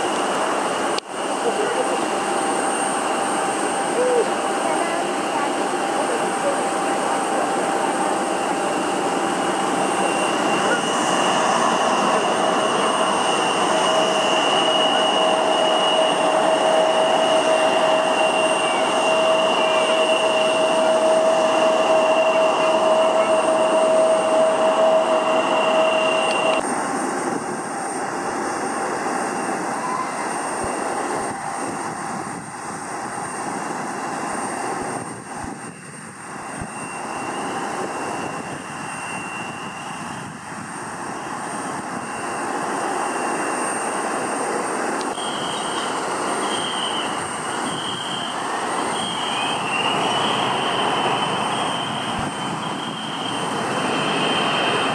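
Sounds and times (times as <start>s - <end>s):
jet engines roaring with whine: 0.0s - 54.9s.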